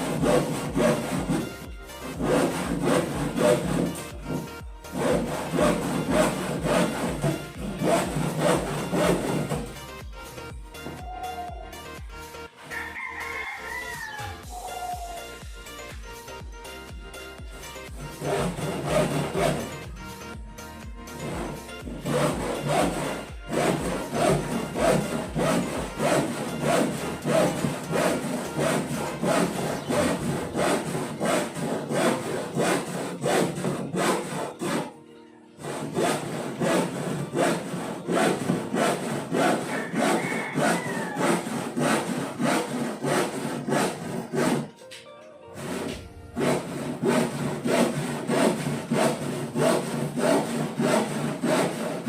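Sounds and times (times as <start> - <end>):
handsaw cutting wood: 0.0 - 10.1, 17.4 - 20.2, 21.1 - 35.0, 35.6 - 44.9, 45.5 - 52.0.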